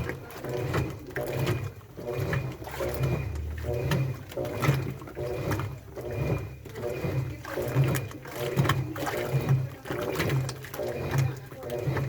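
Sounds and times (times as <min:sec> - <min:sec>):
washing machine drum tumbling: 0:00.0 - 0:12.0.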